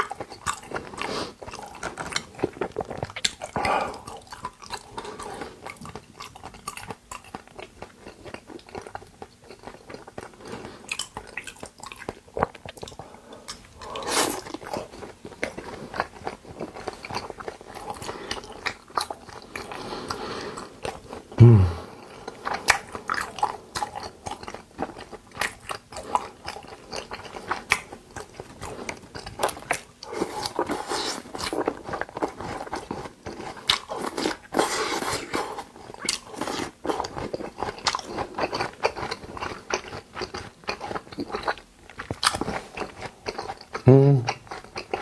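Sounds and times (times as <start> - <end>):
wet chewing mouth sounds: 0.0 - 45.0.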